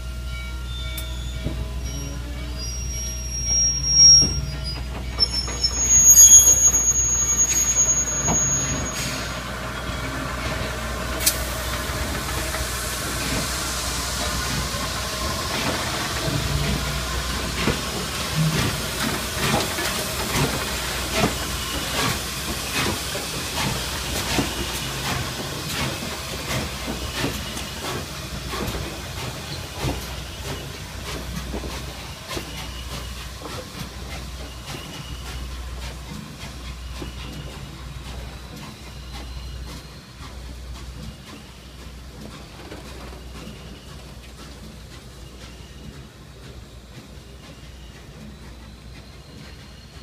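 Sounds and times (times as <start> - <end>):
steam locomotive hissing and rumbling: 0.0 - 50.0.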